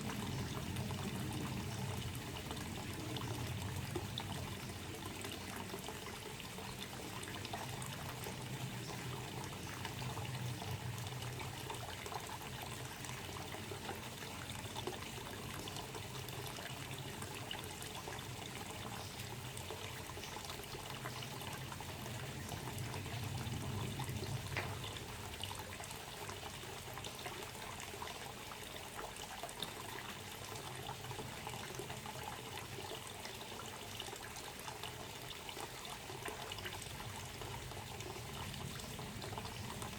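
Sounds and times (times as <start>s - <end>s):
water pouring and splashing: 0.0s - 39.9s.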